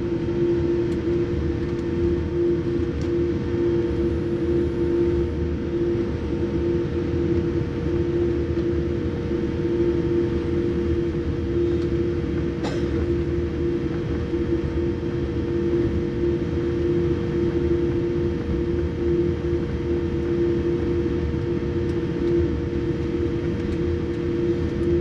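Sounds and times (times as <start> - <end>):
aircraft engine hum: 0.0 - 25.0.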